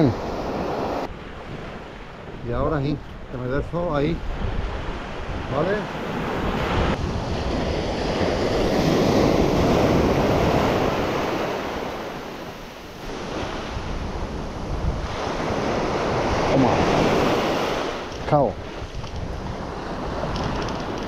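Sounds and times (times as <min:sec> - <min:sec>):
sea surf washing up beach: 0:00.0 - 0:21.0
wind buffeting microphone: 0:00.0 - 0:21.0.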